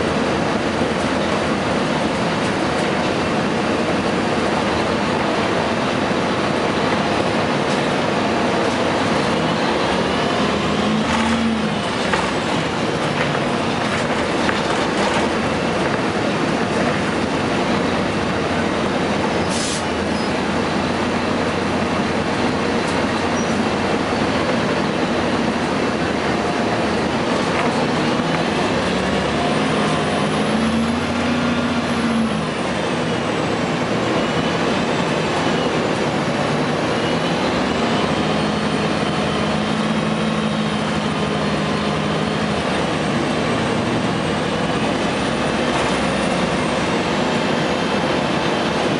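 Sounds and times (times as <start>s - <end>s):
bus diesel engine rumble: 0.0s - 48.9s.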